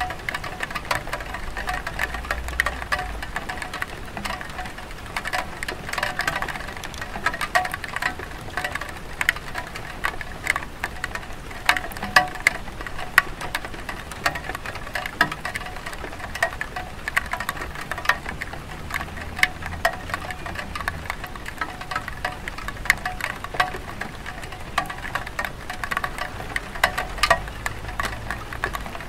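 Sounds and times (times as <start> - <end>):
rain on a tile roof: 0.0 - 29.0
water drips and plinks: 0.0 - 29.0.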